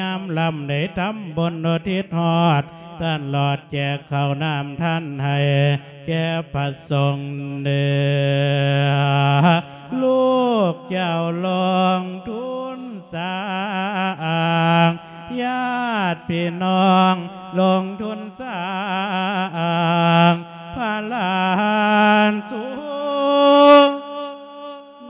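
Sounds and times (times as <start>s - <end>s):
monk chanting into a microphone: 0.0s - 25.0s.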